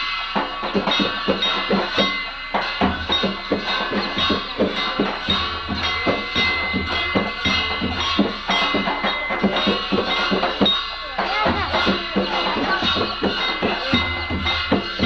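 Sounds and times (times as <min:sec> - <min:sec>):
barrel drums beaten fast: 0:00.0 - 0:15.0
steady ringing tones: 0:00.0 - 0:15.0.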